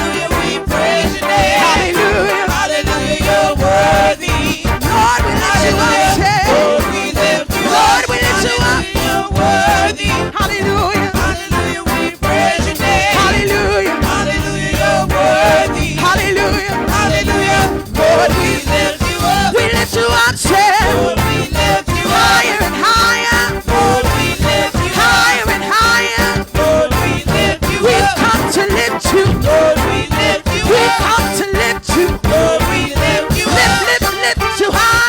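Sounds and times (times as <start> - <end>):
band with steady beat: 0.0 - 35.0
person singing: 0.0 - 35.0.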